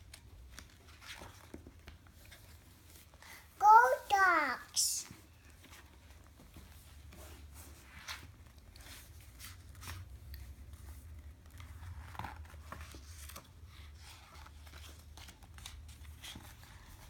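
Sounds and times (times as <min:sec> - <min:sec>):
book pages rustling: 0:00.0 - 0:17.0.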